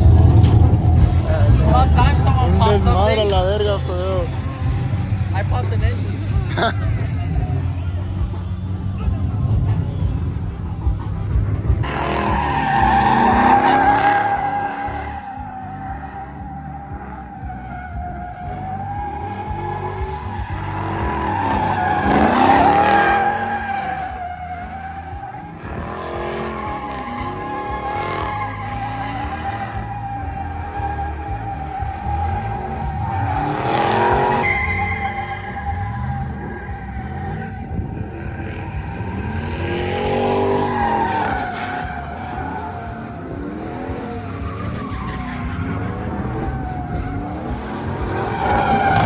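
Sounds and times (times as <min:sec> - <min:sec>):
tires squealing: 0:00.0 - 0:49.0
truck engine revving: 0:00.0 - 0:49.0.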